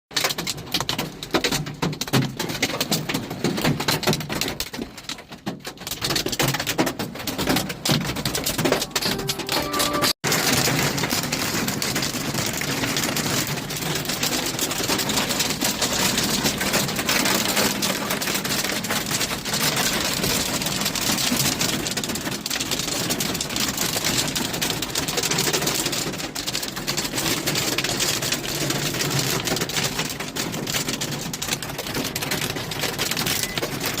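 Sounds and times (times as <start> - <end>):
heavy rain and hail: 0.2 - 9.0, 10.2 - 34.0.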